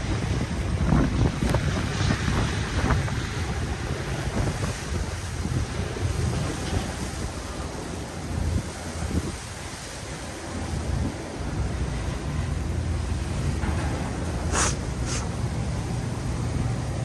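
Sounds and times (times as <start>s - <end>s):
wind gusting across microphone: 0.0s - 17.0s.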